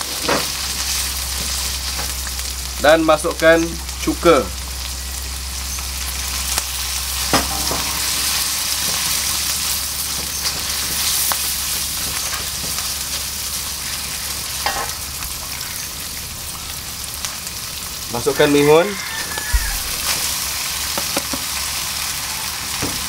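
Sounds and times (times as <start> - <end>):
meat sizzling in a wok: 0.0 - 23.0.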